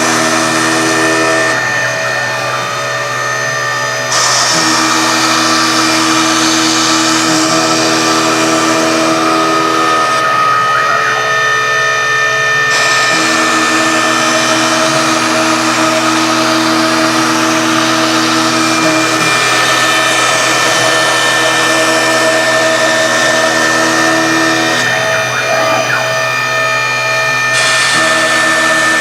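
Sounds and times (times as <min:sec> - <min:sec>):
router machine whine: 0:00.0 - 0:29.0.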